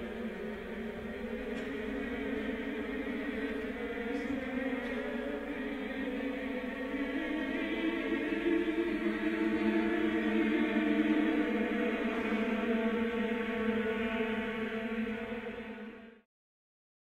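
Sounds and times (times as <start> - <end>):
choral drone of held notes: 0.0 - 16.3.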